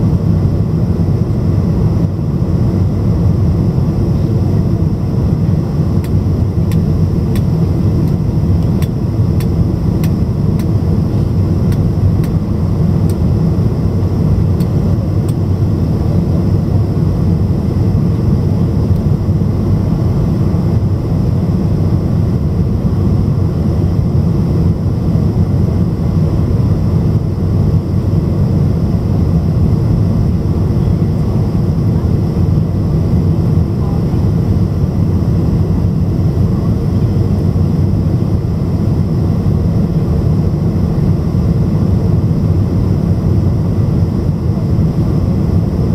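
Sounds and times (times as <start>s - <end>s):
jet engine cabin roar: 0.0s - 45.9s.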